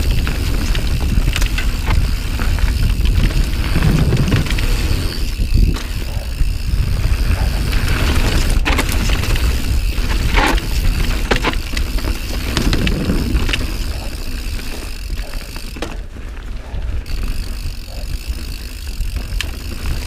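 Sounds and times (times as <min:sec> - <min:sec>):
bike clicks and rattles: 0:00.0 - 0:20.0
bike tyre rumble: 0:00.0 - 0:20.0
wind buffeting microphone: 0:00.0 - 0:20.0.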